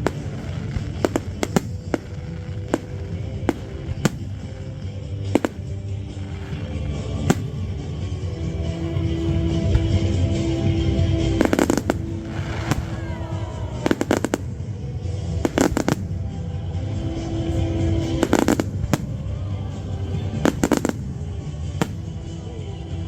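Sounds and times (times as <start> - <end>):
fireworks bursting: 0.0 - 22.6.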